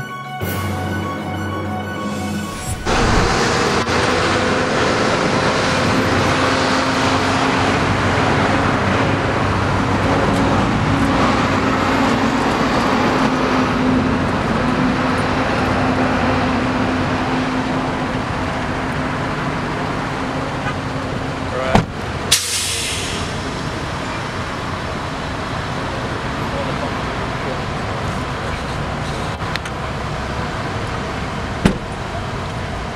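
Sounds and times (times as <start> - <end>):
road traffic noise: 0.0 - 32.9
vehicle engine humming: 0.0 - 32.9.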